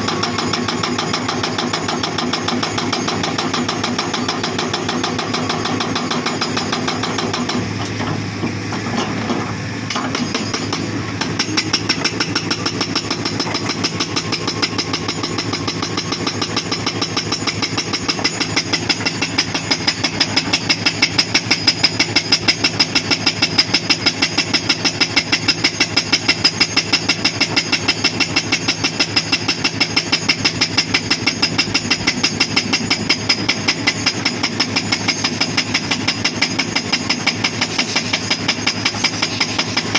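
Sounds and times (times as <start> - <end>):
diesel engine running: 0.0 - 27.3, 30.8 - 39.9
hydraulic breaker hammering rock: 0.0 - 39.9.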